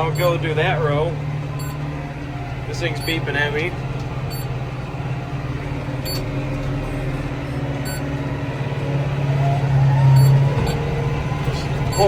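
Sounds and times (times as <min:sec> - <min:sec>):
rising engine whine: 0:00.0 - 0:12.0
tractor engine running: 0:00.0 - 0:12.0.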